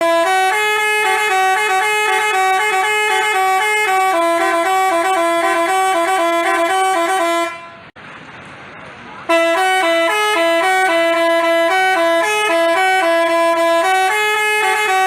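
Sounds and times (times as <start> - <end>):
multi-tone bus horn playing tune: 0.0 - 8.0, 9.3 - 15.0.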